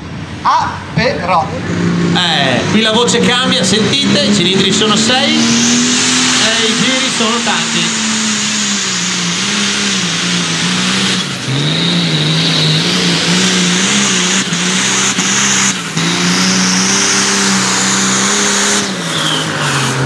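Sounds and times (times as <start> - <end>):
engine running at high revs: 1.2 - 20.0.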